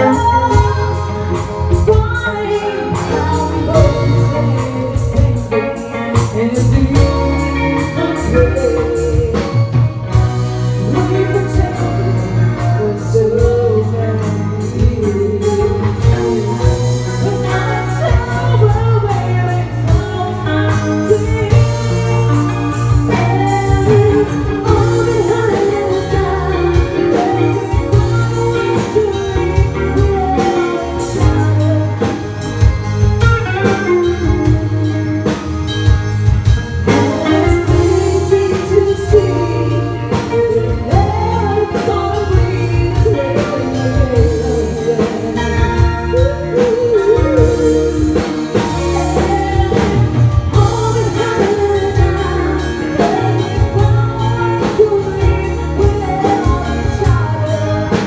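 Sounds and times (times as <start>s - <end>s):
women singing: 0.0s - 32.8s, 36.8s - 58.0s
live band playing: 0.0s - 58.0s
steady bass line: 0.0s - 58.0s.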